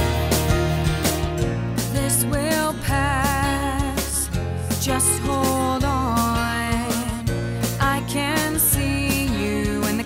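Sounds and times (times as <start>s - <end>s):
pop song: 0.0s - 10.0s
person singing with vibrato: 1.8s - 10.0s.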